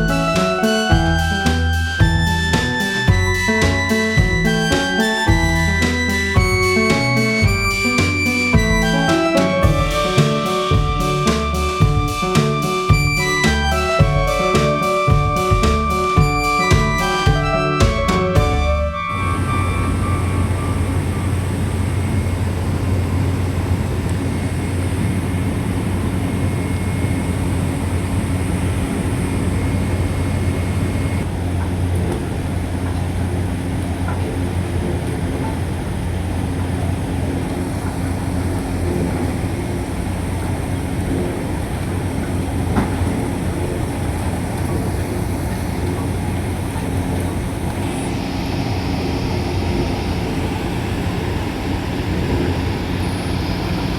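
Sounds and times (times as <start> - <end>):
heavy machinery humming: 0.0 - 53.9.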